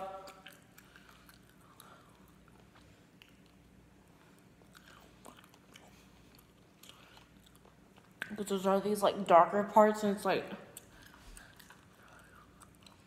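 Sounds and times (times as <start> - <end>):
faint chewing: 0.0 - 8.6, 10.6 - 13.0.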